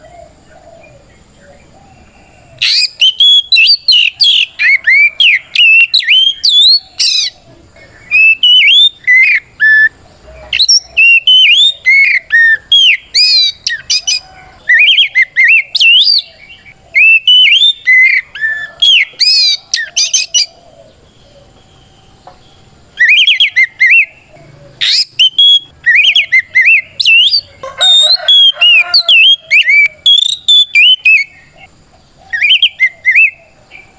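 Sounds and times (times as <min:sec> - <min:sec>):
bird singing whistled notes: 0:00.0 - 0:33.9.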